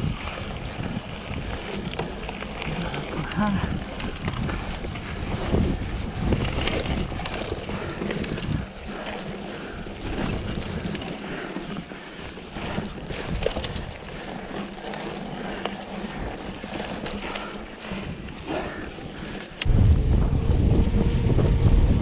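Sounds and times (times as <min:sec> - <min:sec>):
bike clicks and rattles: 0:00.0 - 0:19.7
bike tyres rolling on gravel: 0:00.0 - 0:22.0
wind buffeting microphone: 0:00.0 - 0:22.0.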